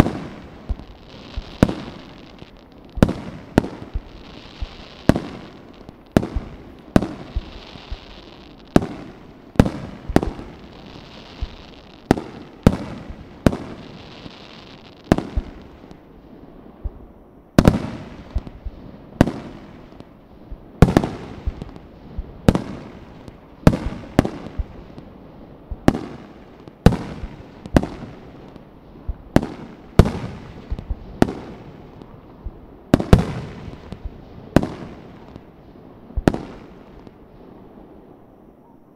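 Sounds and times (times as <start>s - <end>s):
fireworks bangs with echo: 0.0s - 16.1s, 16.8s - 38.1s.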